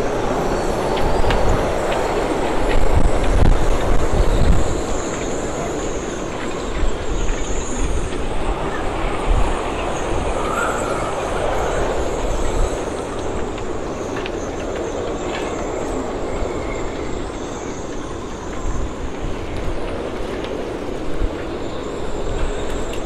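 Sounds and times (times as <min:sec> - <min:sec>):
faint high whistles: 0:00.0 - 0:19.8
strong wind buffeting microphone: 0:00.0 - 0:23.0.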